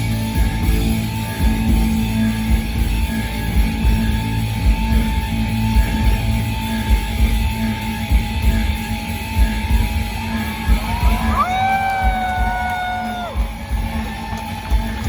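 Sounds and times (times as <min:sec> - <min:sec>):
drum beat: 0:00.0 - 0:15.0
electric guitar sustained tones: 0:00.0 - 0:15.0.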